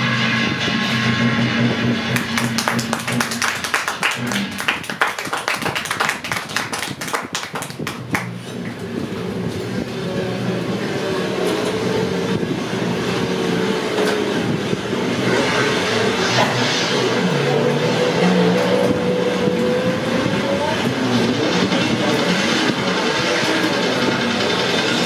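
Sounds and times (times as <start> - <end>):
motorcycle engines droning: 0.0 - 25.0.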